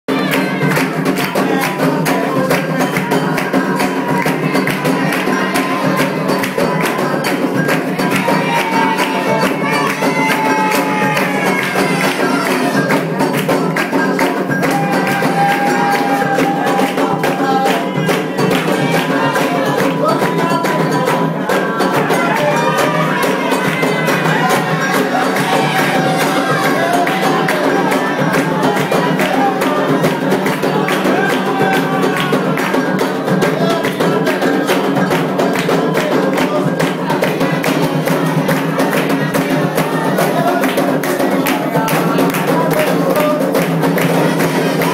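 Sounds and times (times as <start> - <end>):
hand drums playing: 0.1 - 44.9
people singing: 0.1 - 44.9.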